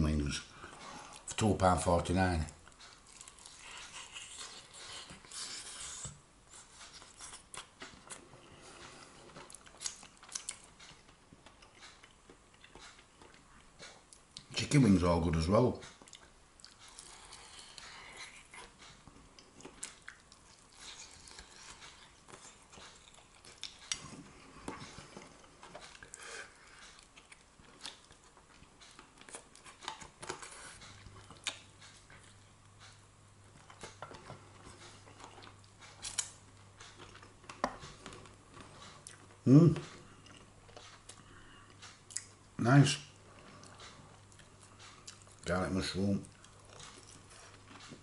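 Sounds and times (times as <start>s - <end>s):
faint low hum: 0.0s - 48.0s
chewing: 2.4s - 14.6s, 15.8s - 42.5s, 43.2s - 48.0s.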